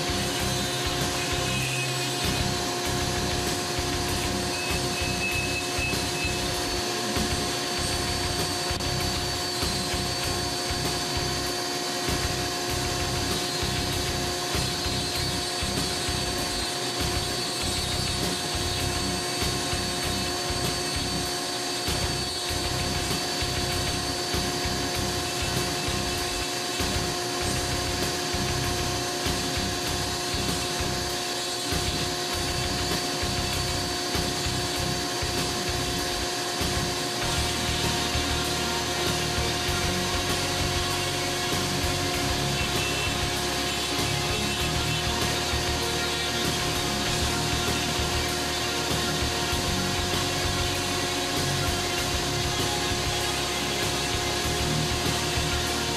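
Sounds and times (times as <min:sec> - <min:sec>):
dust collector hum: 0:00.0 - 0:55.9
rotary tool grinding wood: 0:00.0 - 0:55.9.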